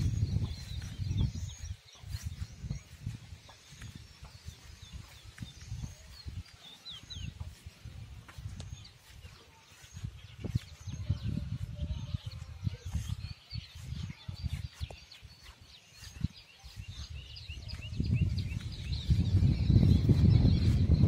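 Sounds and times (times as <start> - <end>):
small birds chirping: 0.0 - 21.0
wind buffeting microphone: 0.0 - 21.0.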